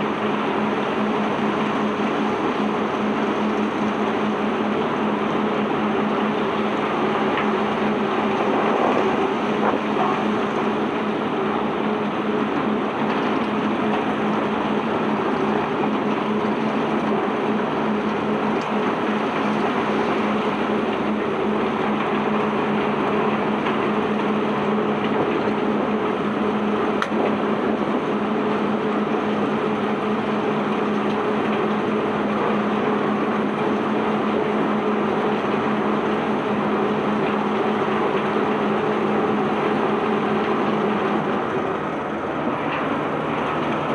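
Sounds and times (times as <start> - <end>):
heavy machinery running: 0.0 - 43.9.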